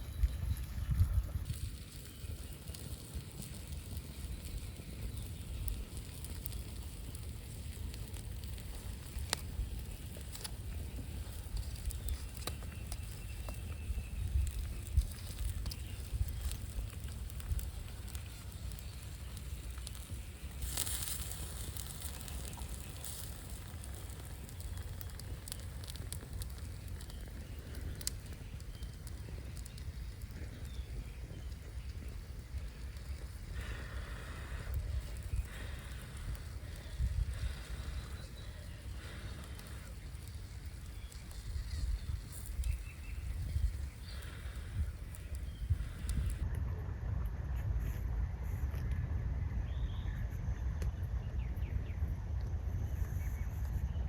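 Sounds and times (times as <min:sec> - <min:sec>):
wood fire crackling: 0:00.0 - 0:46.5.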